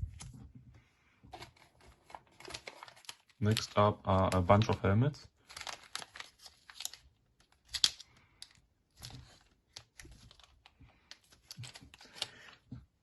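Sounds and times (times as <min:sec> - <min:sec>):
plastic bags crinkling: 0:01.6 - 0:12.6.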